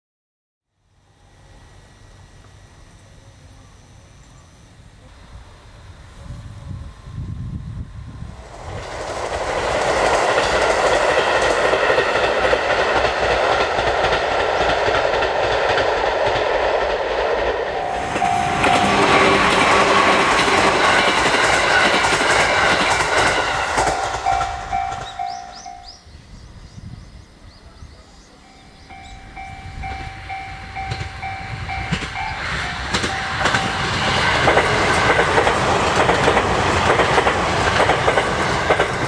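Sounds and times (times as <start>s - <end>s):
train wheels rumbling on rails: 6.0s - 39.0s.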